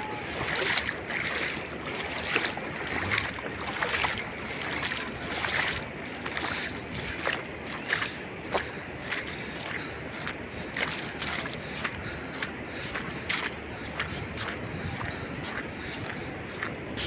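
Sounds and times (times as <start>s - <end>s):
sea surf: 0.0s - 17.0s
wind buffeting microphone: 0.0s - 17.0s.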